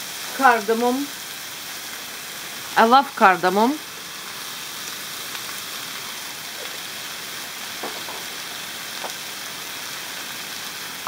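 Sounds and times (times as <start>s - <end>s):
meat and onions sizzling in pan: 0.0s - 11.0s.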